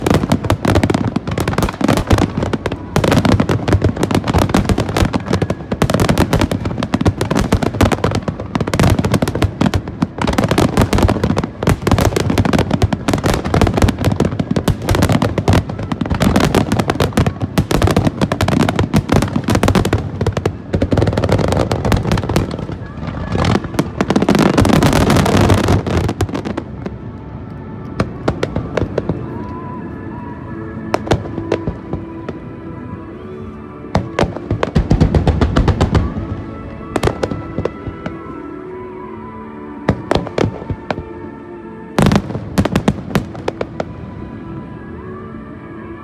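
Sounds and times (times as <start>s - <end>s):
fireworks bangs and crackling: 0.0s - 27.0s, 27.9s - 29.6s, 30.9s - 32.5s, 33.8s - 38.6s, 39.9s - 41.3s, 42.0s - 44.0s.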